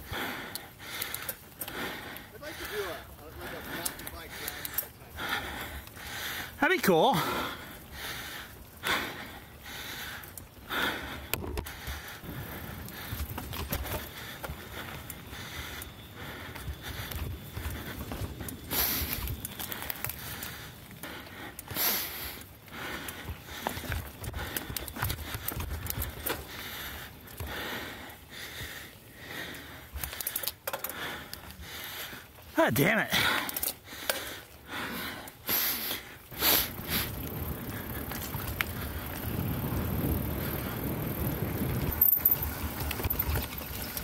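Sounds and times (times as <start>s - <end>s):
bike clicks and rattles: 0.0s - 6.6s, 7.2s - 44.0s
person breathing hard: 0.0s - 6.6s, 7.2s - 42.0s
tyres rumbling on dirt trail: 0.0s - 44.0s.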